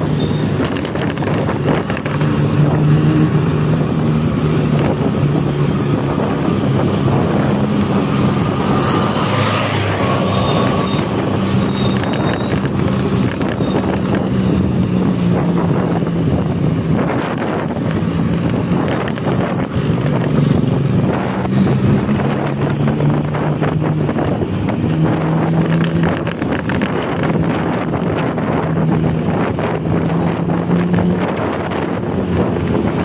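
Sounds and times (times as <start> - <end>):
bus diesel engine growling: 0.0 - 33.0.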